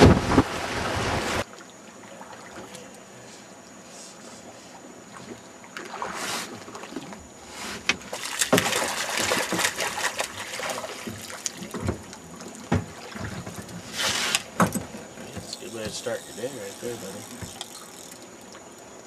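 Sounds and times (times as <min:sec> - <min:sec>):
water splashing and sloshing: 0:00.0 - 0:03.8, 0:04.4 - 0:19.0.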